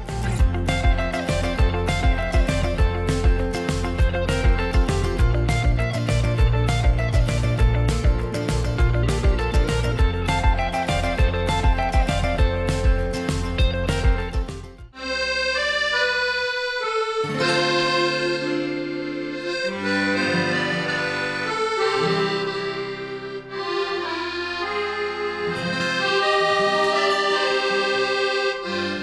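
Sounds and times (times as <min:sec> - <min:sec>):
accordion music: 0:00.0 - 0:29.0.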